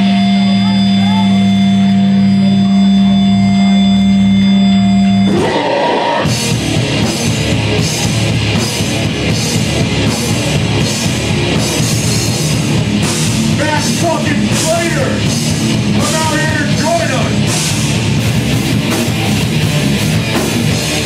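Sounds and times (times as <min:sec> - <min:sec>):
distorted guitars: 0:00.0 - 0:21.0
drums keeping a steady beat: 0:00.0 - 0:21.0
heavy metal band playing live: 0:00.0 - 0:21.0.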